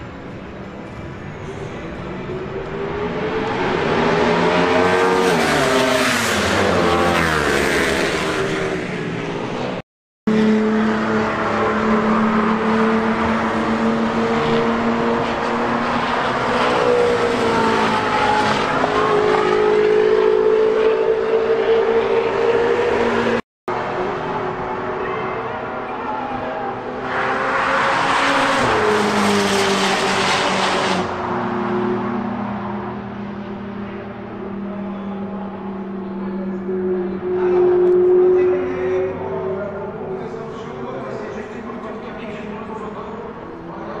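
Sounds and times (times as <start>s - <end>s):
race cars driving past: 0.0s - 44.0s.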